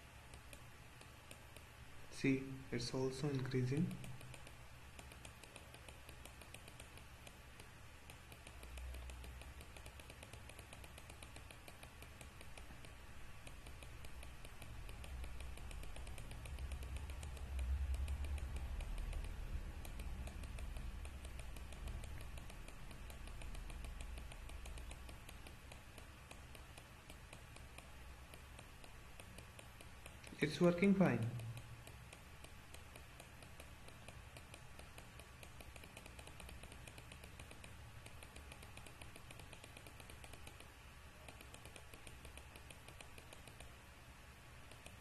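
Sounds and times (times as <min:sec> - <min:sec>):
faint rapid light clicking: 0:00.2 - 0:01.8, 0:02.8 - 0:43.8.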